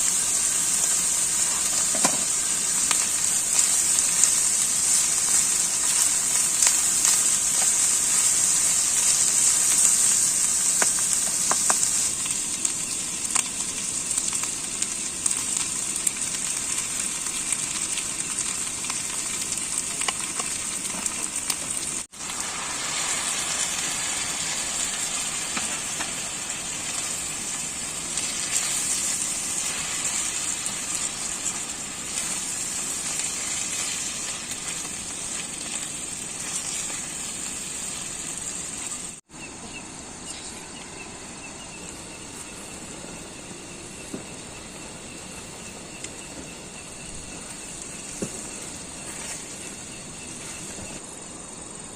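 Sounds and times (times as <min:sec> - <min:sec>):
food sizzling in a pan: 0:00.0 - 0:51.7.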